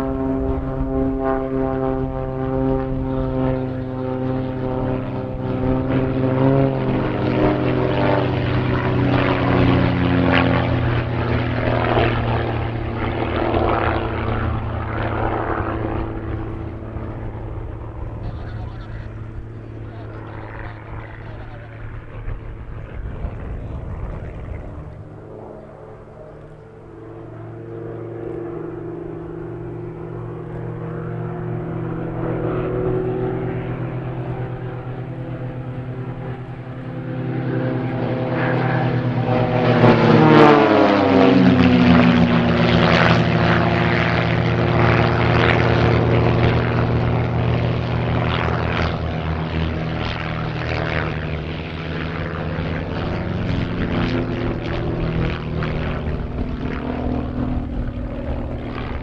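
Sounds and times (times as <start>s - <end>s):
propeller plane engines: 0.0s - 59.0s.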